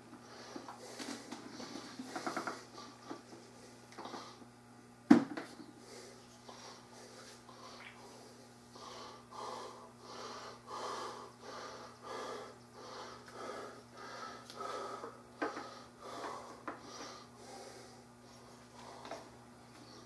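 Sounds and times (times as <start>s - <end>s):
low electrical hum: 0.0s - 20.0s
heavy wheezy breathing: 0.2s - 4.5s, 5.8s - 19.3s.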